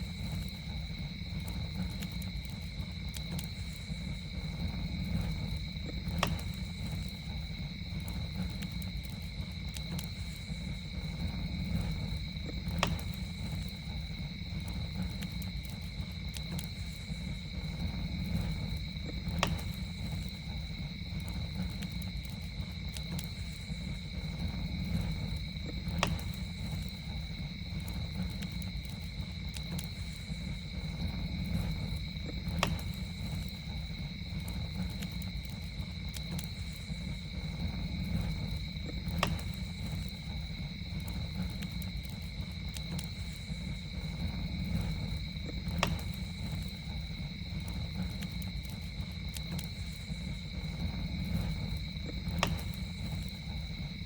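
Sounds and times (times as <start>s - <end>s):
campfire rumbling: 0.0s - 54.0s
fire crackling pops: 0.0s - 54.0s
night insects droning: 0.0s - 54.0s.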